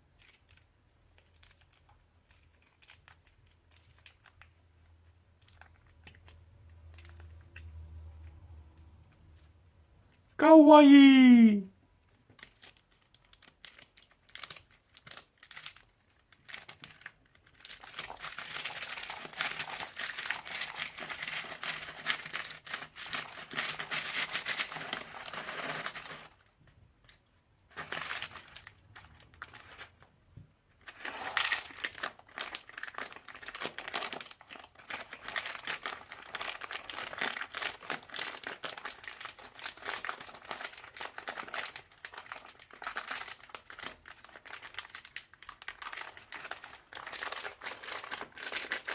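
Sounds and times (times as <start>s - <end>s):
crunchy slime crackling and popping: 0.0s - 7.8s, 12.2s - 26.4s, 30.8s - 48.9s.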